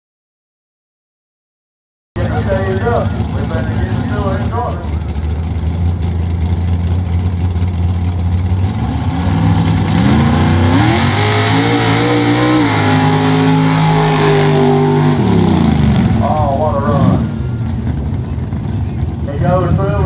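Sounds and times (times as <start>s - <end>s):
engine idling and revving: 2.2s - 20.0s.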